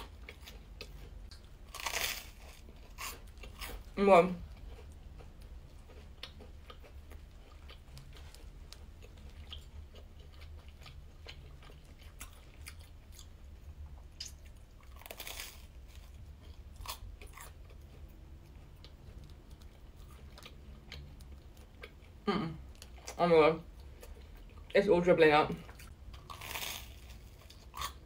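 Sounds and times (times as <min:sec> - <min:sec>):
chewing toast sandwich: 0:00.0 - 0:24.7, 0:25.7 - 0:28.0.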